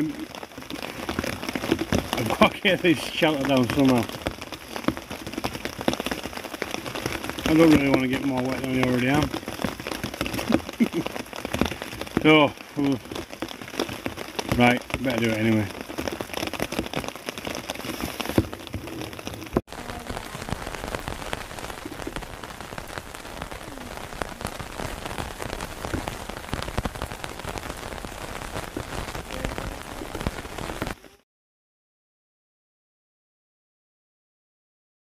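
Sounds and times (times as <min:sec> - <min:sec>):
rain pattering on a tarp: 0:00.0 - 0:31.2.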